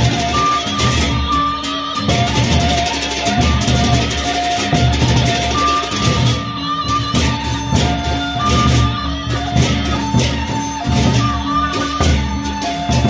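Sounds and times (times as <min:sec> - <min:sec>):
cymbal strokes: 0:00.0 - 0:13.0
held melodic notes: 0:00.0 - 0:13.0
barrel drums beating: 0:02.0 - 0:13.0.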